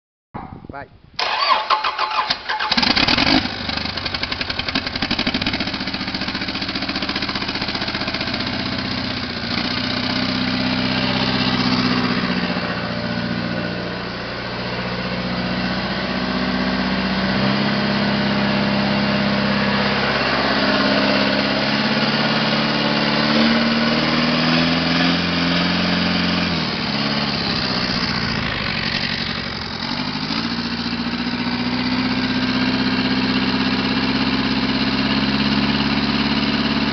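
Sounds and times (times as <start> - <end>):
diesel engine running: 1.2 - 36.9.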